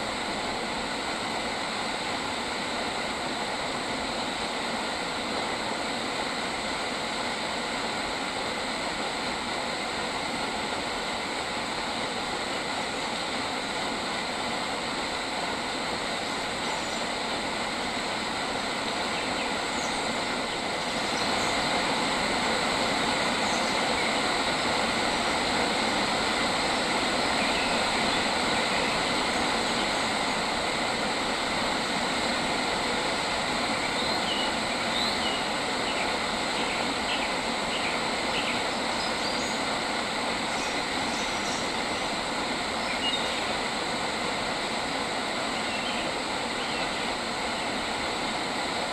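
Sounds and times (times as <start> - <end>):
outdoor ambient noise: 0.0 - 48.9.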